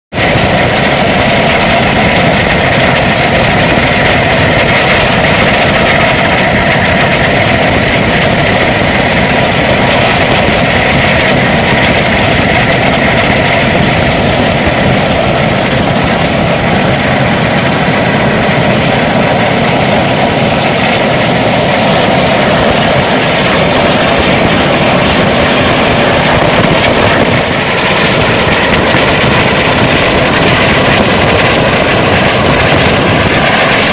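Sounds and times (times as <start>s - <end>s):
aircraft engine and airflow noise: 0.1s - 33.9s.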